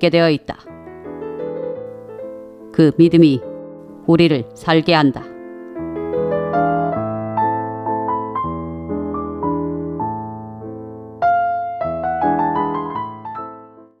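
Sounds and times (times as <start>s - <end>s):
piano slow broken chords: 0.6s - 14.0s.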